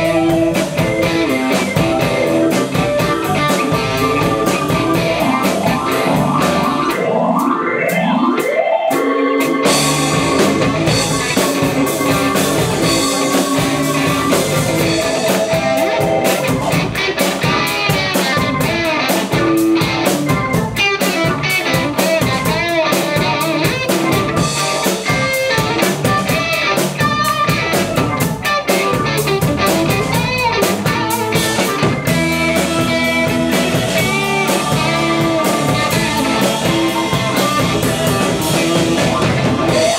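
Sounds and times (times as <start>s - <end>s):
electric guitar runs: 0.0s - 8.4s, 9.4s - 39.9s
blues-rock band playing: 0.0s - 39.9s.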